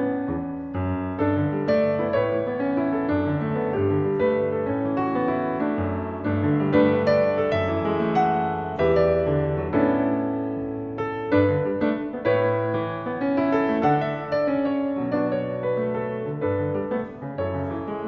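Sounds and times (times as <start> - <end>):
solo jazz piano: 0.0 - 18.0.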